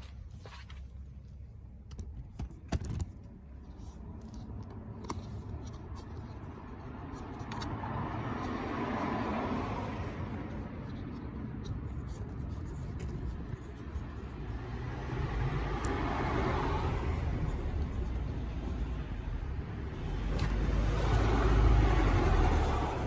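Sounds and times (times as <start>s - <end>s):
road vehicles passing: 3.7s - 23.0s.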